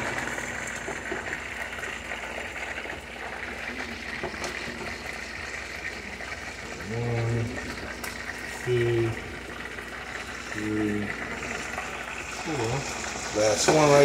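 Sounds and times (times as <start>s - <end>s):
chicken sizzling in frying pan: 0.0s - 14.0s.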